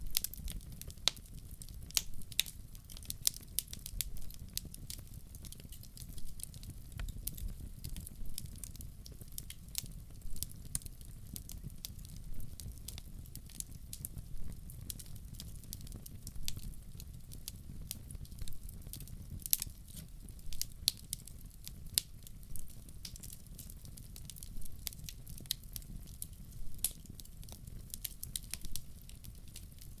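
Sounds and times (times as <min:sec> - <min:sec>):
fire crackling in fireplace: 0:00.0 - 0:30.0.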